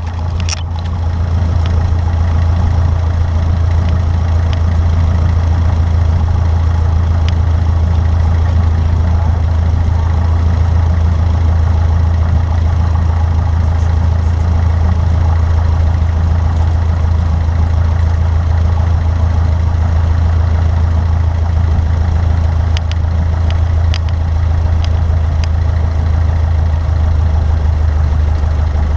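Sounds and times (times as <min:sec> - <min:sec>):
propeller plane engine drone: 0:00.0 - 0:28.9.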